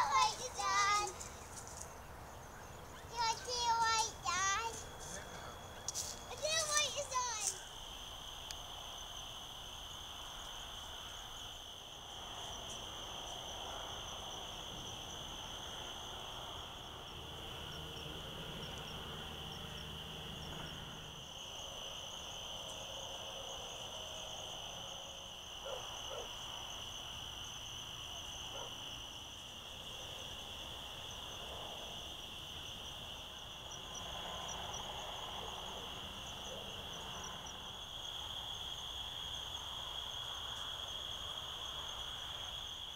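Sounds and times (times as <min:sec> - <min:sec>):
crickets chirring: 0:00.0 - 0:42.9
high pulsing insect trill: 0:00.0 - 0:42.9.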